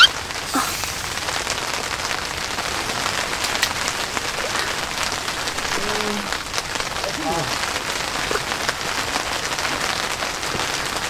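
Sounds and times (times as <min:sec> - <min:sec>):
rain on tent fabric: 0:00.0 - 0:11.0.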